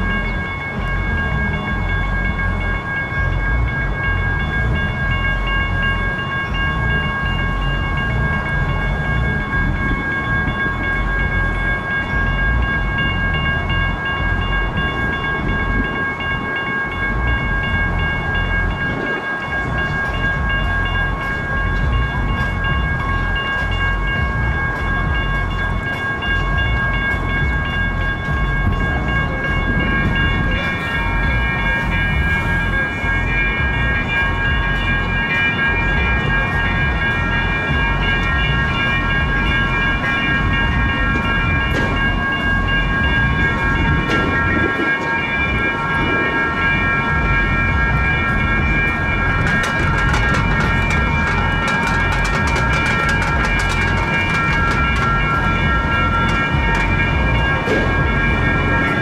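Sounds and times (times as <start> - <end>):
low rumble: 0.0 - 59.0
railroad crossing bells ringing: 0.0 - 59.0.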